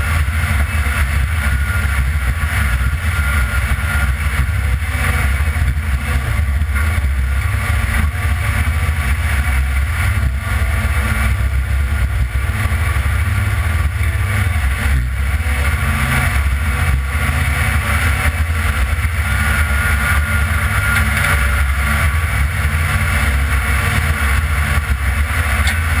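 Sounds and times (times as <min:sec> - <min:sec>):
truck engine droning: 0:00.0 - 0:26.0.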